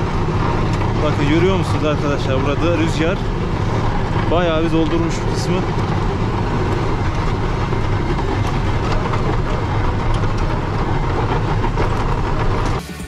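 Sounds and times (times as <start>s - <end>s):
tractor running under load: 0.0s - 13.0s.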